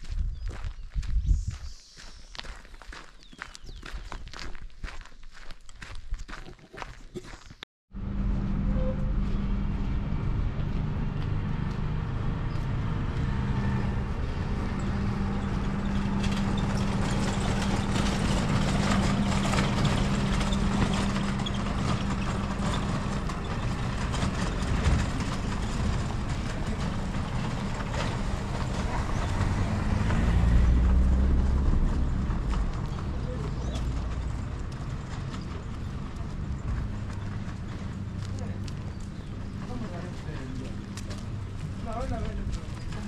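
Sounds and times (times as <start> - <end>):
vehicle engine running: 7.9 - 43.0.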